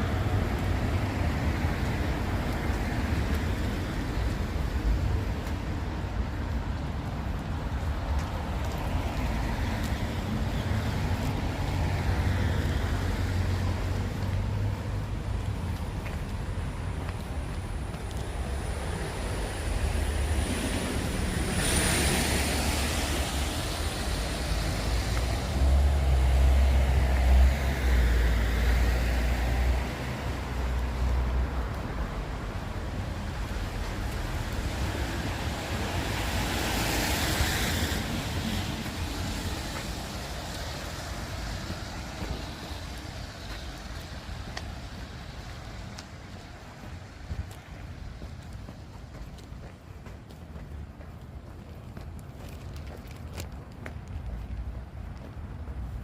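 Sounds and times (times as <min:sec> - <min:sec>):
tyres hissing on wet road: 0:00.0 - 0:50.0.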